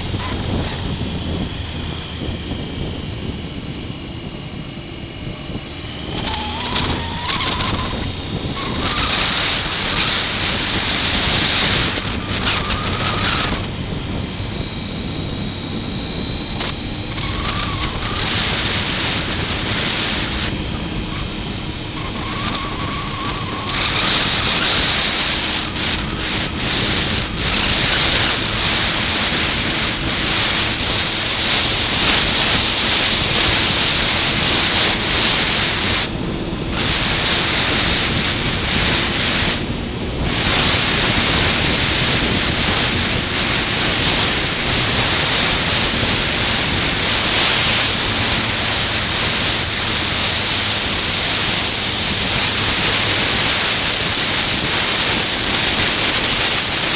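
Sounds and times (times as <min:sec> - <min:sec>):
motorcycle engine: 0:00.0 - 0:56.9
wind noise on microphone: 0:00.0 - 0:56.9.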